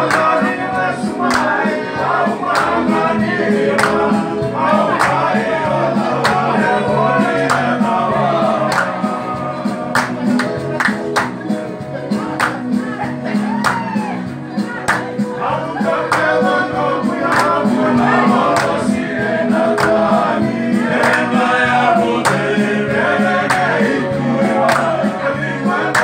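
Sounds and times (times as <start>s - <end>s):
men singing together: 0.0s - 11.1s, 14.7s - 26.0s.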